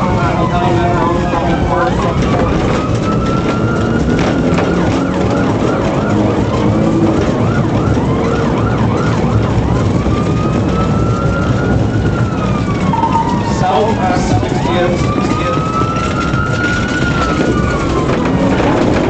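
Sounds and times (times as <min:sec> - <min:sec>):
engine and road noise: 0:00.0 - 0:19.0
police siren: 0:00.0 - 0:19.0.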